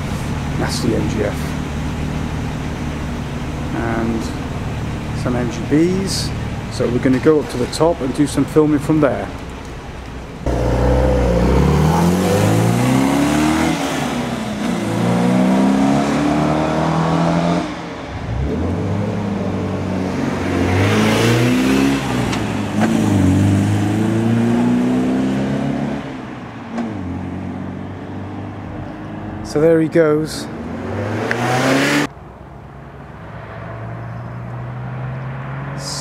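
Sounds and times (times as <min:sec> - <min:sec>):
race car engines accelerating: 0:00.0 - 0:32.2, 0:33.0 - 0:36.0.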